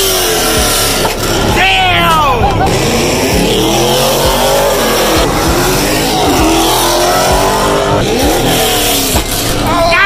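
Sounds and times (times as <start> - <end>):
car engines revving and accelerating: 0.0 - 10.0.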